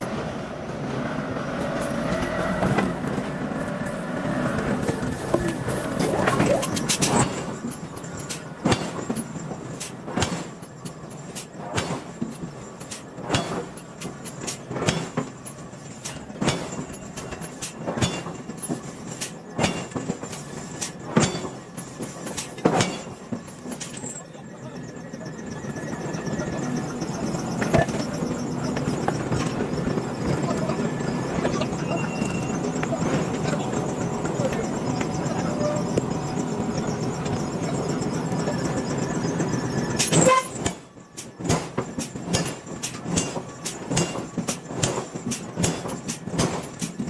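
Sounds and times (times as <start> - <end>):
steady machinery noise: 0.0 - 47.0.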